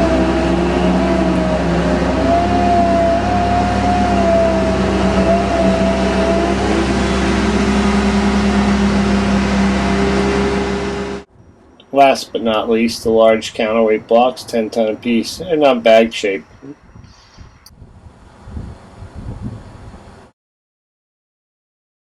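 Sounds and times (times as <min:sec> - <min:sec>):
crane engine drone: 0:00.0 - 0:20.3
hydraulic whine: 0:00.0 - 0:20.3.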